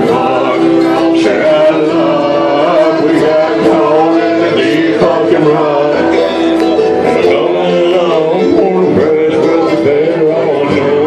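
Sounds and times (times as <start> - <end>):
acoustic string instruments: 0.0 - 11.0
people singing: 0.0 - 11.0.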